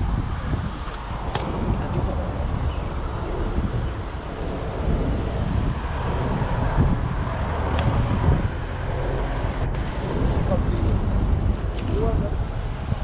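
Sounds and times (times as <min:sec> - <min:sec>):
road traffic rumble: 0:00.0 - 0:13.0
wind buffeting microphone: 0:00.0 - 0:13.0.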